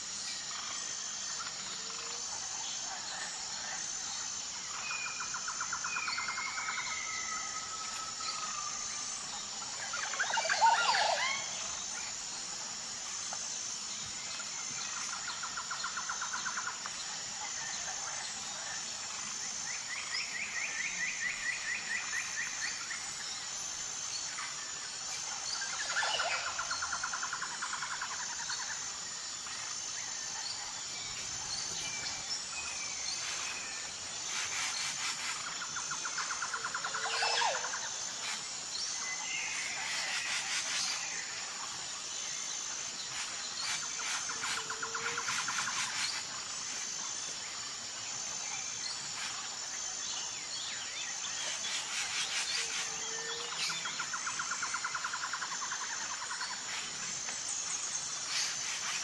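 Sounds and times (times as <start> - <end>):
high insect chorus: 0.0 - 59.0.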